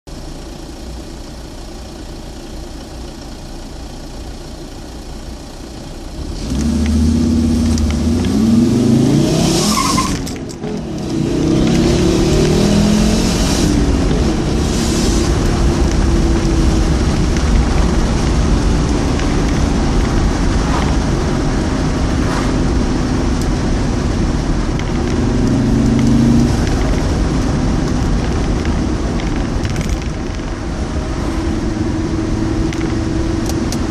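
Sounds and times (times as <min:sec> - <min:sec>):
car engine accelerating: 0:05.8 - 0:33.9.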